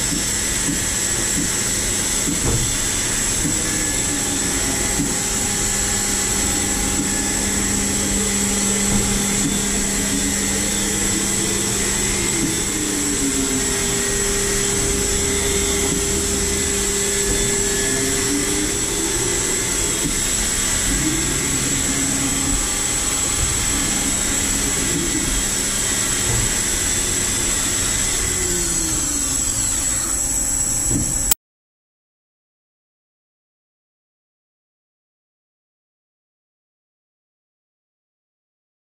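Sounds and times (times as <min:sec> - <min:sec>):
machining centre humming and whining: 0:00.0 - 0:31.4.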